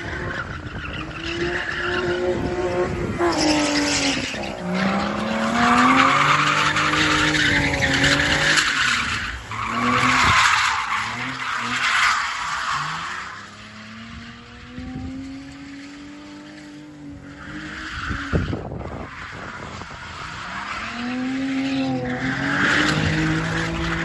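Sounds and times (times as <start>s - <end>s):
car engine revving: 0.0s - 24.0s
tyres squealing and skidding: 0.0s - 24.0s.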